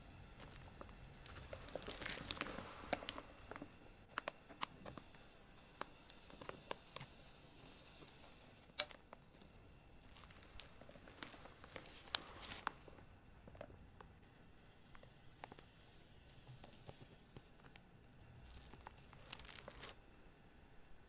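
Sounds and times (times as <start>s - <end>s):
batter squishing: 0.0s - 20.2s
plastic piping bag crinkling: 0.2s - 20.1s.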